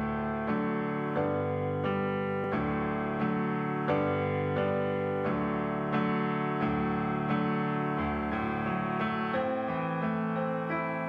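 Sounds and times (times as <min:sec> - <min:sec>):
piano keyboard chords: 0:00.0 - 0:11.0.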